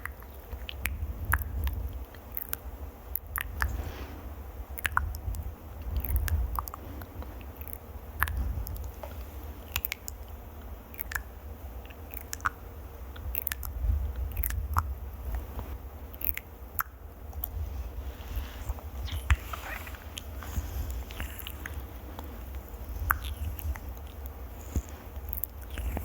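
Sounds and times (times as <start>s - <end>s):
crisp clicks and crackles: 0.0s - 3.8s, 4.7s - 26.0s.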